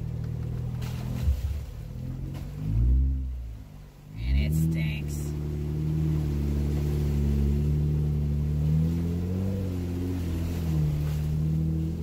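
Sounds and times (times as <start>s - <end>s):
off-road vehicle engine at low revs: 0.0s - 12.0s.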